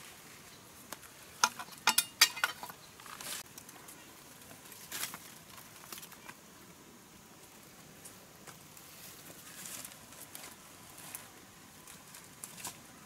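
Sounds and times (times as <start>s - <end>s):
leaves and brush rustling: 0.0s - 13.0s.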